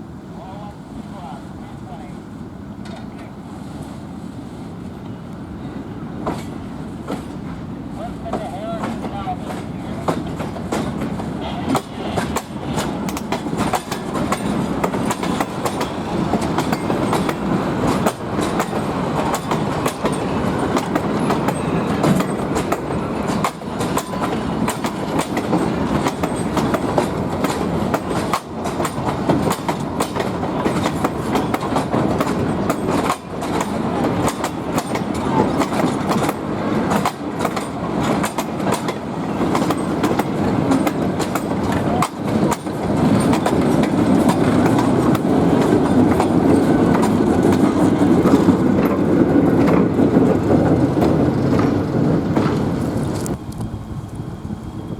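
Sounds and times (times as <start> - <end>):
train wheels clicking on rails: 4.8 - 54.9.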